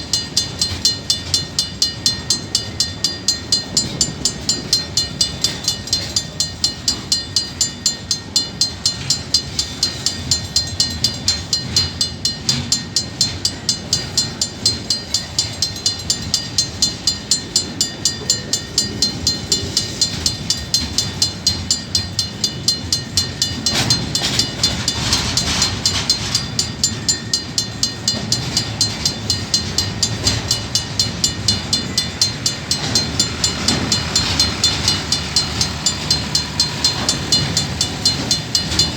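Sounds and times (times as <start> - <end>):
level crossing bell ringing: 0.0 - 38.9
train rumbling: 0.0 - 38.9.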